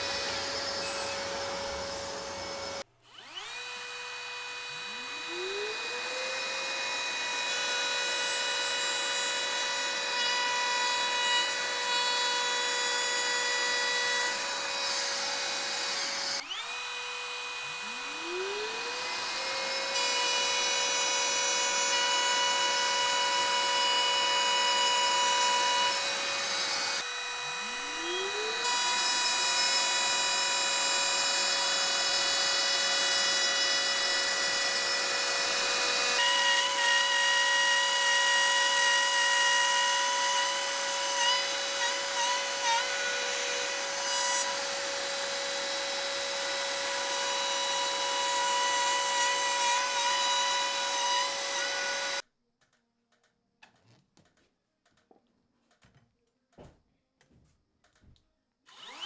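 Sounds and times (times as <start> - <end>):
trim router whining: 0.0 - 52.2, 58.7 - 59.0.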